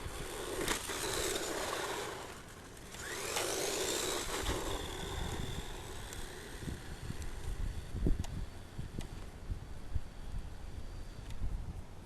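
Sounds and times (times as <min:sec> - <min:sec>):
toy truck electric motor whine: 0:00.0 - 0:11.4.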